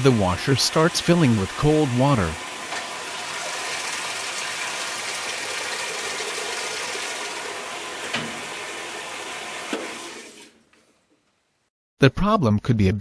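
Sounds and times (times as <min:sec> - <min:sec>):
water gushing into washer tub: 0:00.0 - 0:10.7.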